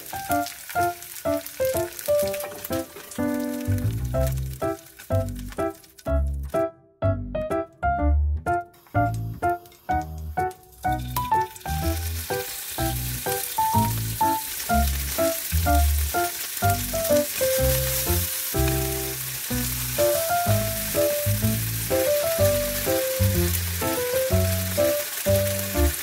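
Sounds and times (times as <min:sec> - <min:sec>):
food sizzling in a frying pan: 0:00.0 - 0:06.3, 0:08.8 - 0:26.0.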